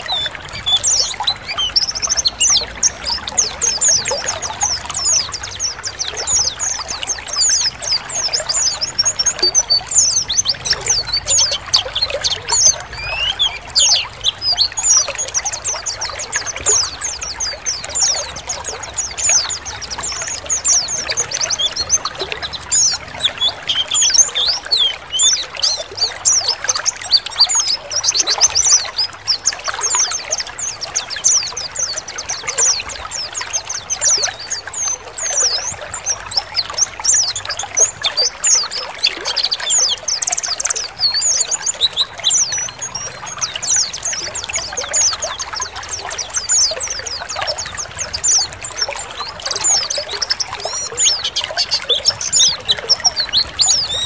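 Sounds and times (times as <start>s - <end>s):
birds chirping and twittering: 0.0s - 54.0s
trickling water: 0.0s - 54.0s.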